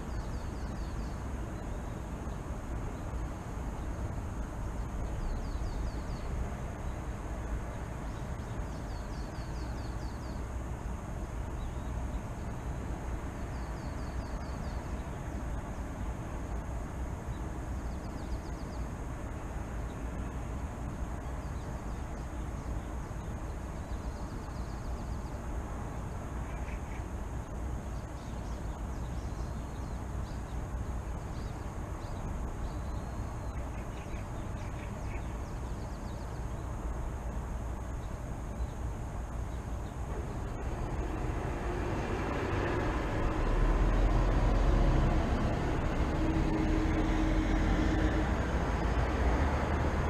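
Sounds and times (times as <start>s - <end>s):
small birds chirping: 0.0s - 41.4s
city traffic rumble: 0.0s - 50.0s
vehicle deep rumble: 0.0s - 50.0s.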